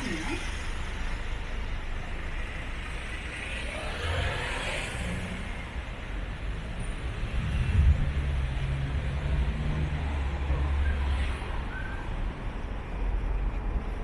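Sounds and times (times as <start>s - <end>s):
low engine rumble of traffic: 0.0s - 14.0s.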